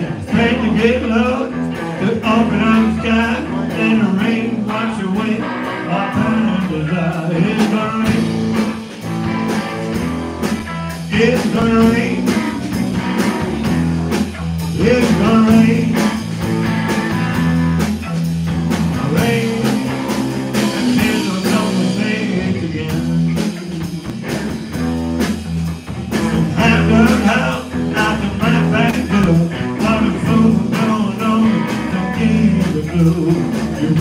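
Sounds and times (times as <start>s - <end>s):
drum kit strokes: 0.0s - 34.0s
electric bass notes: 0.0s - 34.0s
electric guitar: 0.0s - 34.0s.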